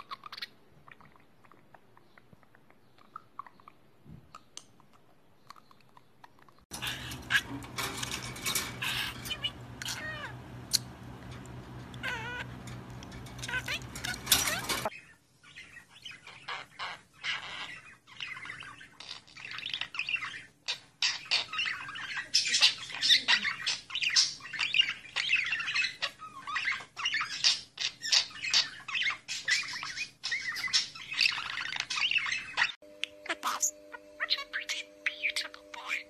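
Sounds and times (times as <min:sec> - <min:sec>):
budgerigar chattering and warbling: 0:00.0 - 0:10.9, 0:11.9 - 0:12.5, 0:16.2 - 0:36.0.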